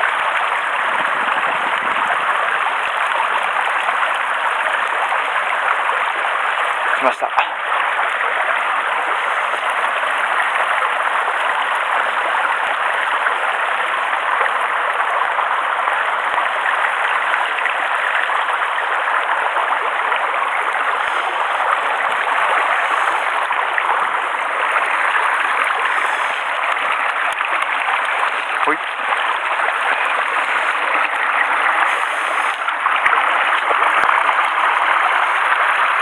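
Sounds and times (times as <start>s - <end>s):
stream flowing over stones: 0.0s - 36.0s.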